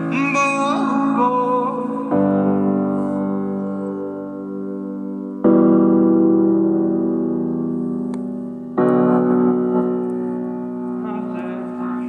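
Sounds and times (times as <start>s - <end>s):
piano chords through speaker: 0.0s - 12.0s.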